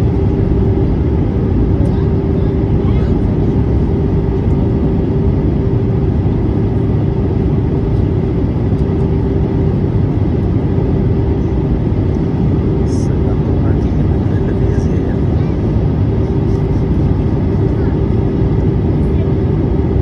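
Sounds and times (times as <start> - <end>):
jet engine and airflow rush: 0.0 - 20.0
steady cabin hum: 0.0 - 20.0.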